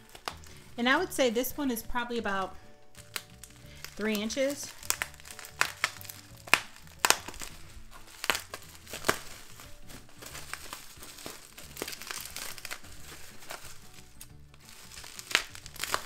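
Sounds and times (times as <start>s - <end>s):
bubble wrap crinkling and crackling: 0.0s - 16.0s
quiet background music: 0.0s - 16.0s.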